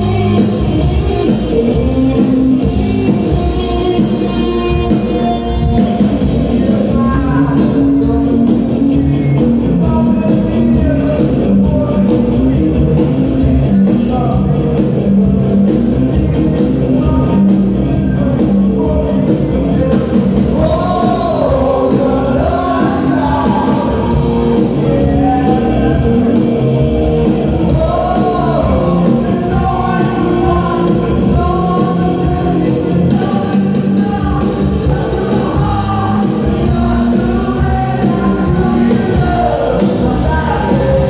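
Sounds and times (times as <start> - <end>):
live band playing: 0.0 - 41.0
person singing: 0.0 - 41.0
steady drum beat: 0.0 - 41.0.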